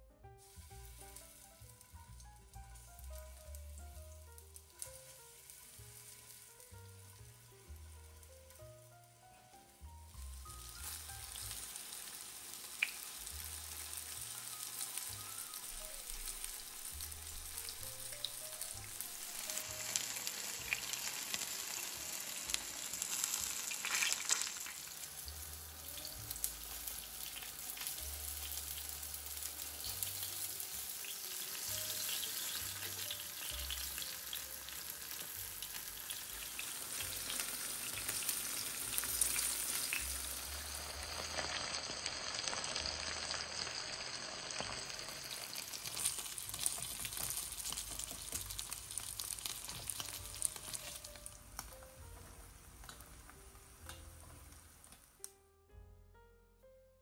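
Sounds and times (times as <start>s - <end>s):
tofu sizzling in oil: 0.4s - 55.2s.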